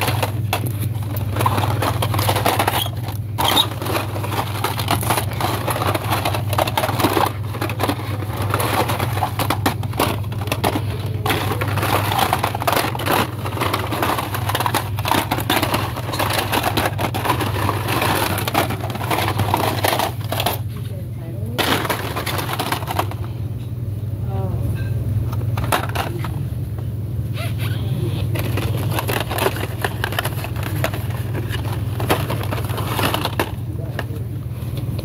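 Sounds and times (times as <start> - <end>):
plastic blister packs crinkling: 0.0 - 20.9, 21.5 - 23.4, 27.4 - 35.0.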